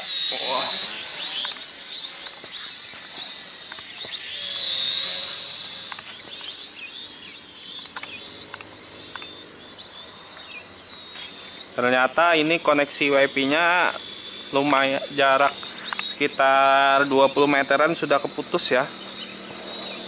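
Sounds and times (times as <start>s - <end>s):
toy drone propellers whining: 0.0s - 20.0s.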